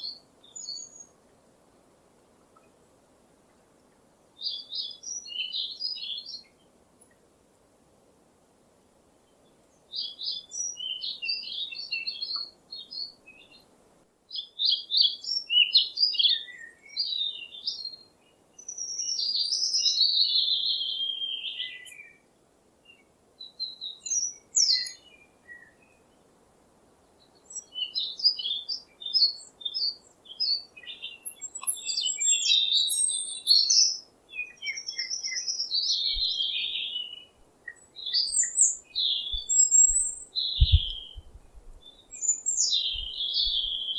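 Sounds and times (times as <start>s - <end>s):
songbirds singing: 0.0s - 7.2s, 9.2s - 13.7s, 14.3s - 43.9s
faint low hiss: 0.0s - 43.9s.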